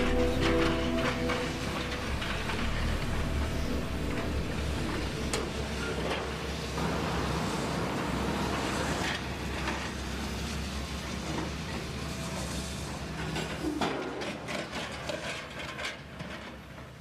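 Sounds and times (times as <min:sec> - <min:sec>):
excavator diesel engines rumbling: 0:00.0 - 0:16.7.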